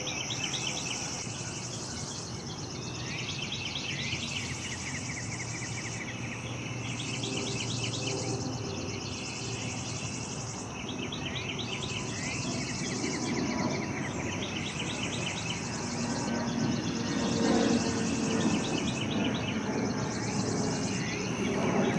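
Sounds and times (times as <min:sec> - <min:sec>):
insects droning: 0:00.0 - 0:21.9
songbirds chirping trills: 0:00.0 - 0:21.9.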